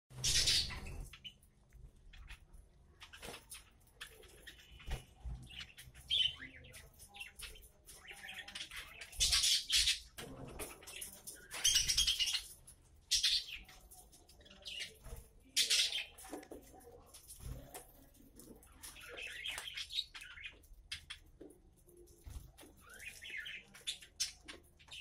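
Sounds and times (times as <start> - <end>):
budgerigars chirping and chattering: 0.1 - 25.0.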